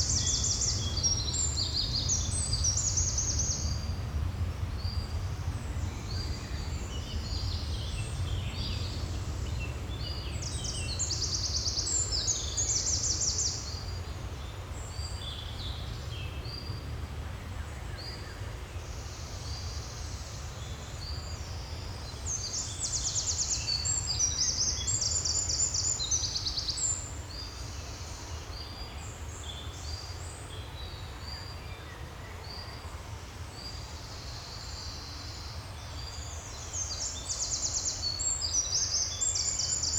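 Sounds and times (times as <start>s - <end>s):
songbirds singing: 0.0s - 4.1s, 4.7s - 39.9s.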